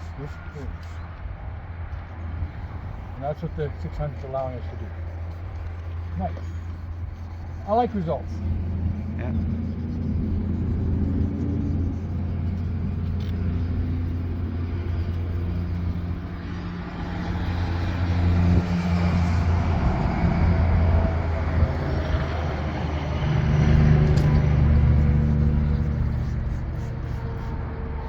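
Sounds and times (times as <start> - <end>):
scratchy sanding on metal panel: 0.0 - 1.2, 2.4 - 28.0
low mechanical hum: 0.0 - 28.0.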